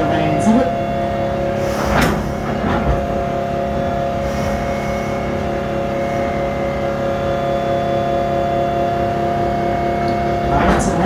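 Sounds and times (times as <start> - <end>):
locomotive engine humming: 0.0 - 11.0.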